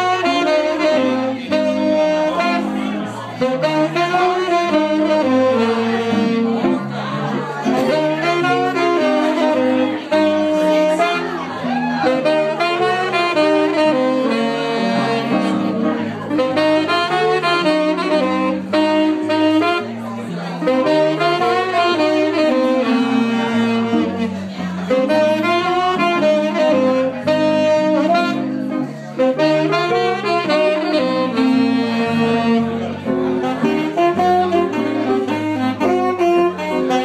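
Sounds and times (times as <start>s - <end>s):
guitar: 0.0s - 37.0s
saxophone playing melody: 0.0s - 37.0s.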